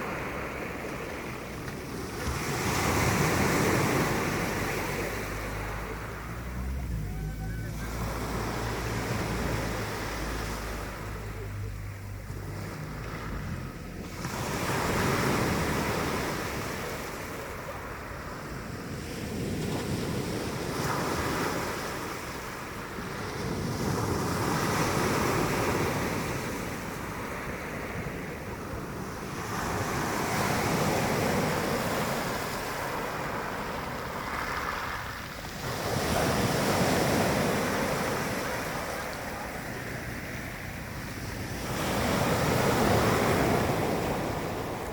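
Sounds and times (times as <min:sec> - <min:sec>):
sea waves washing onto shore: 0:00.0 - 0:44.9
wind on microphone: 0:00.0 - 0:44.9.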